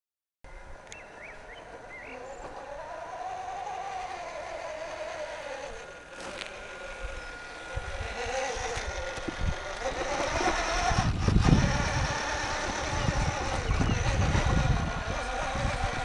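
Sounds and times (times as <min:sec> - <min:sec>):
model truck electric drive whine: 0:00.5 - 0:16.0.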